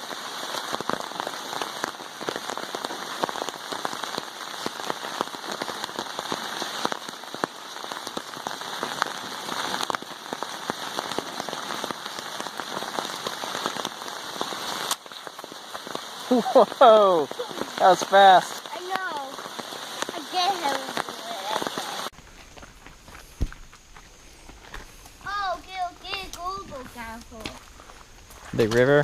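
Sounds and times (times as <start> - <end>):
heavy pouring rain: 0.0 - 22.7, 24.4 - 29.0
close raindrops hitting sharply: 0.0 - 29.0.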